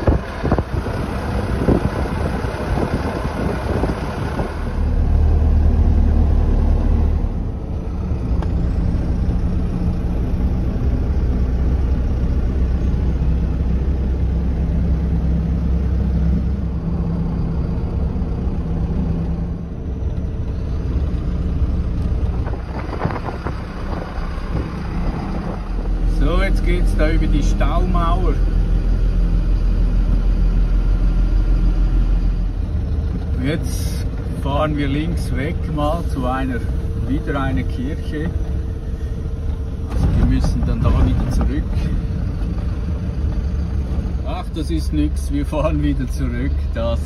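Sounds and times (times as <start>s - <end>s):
tyre and road noise: 0.0s - 47.0s
vehicle engine running: 0.0s - 47.0s.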